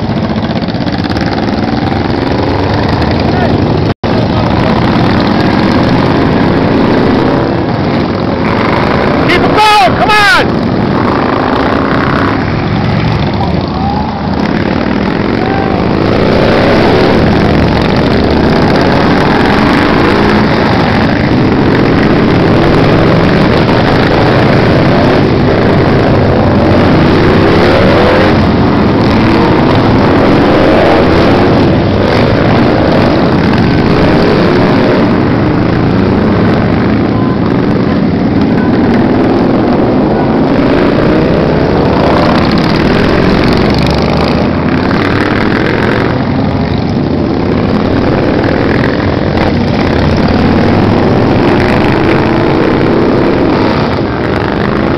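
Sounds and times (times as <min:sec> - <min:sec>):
motorcycles riding past: 0:00.0 - 0:54.9.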